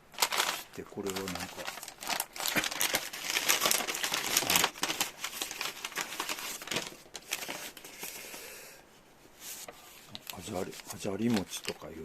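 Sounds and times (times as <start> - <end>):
wrapper crinkling and tearing: 0.0 - 8.2, 10.1 - 12.0.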